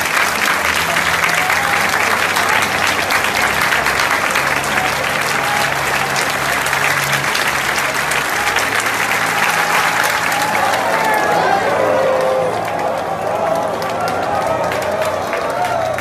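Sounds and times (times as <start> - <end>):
stadium crowd clapping: 0.0 - 16.0.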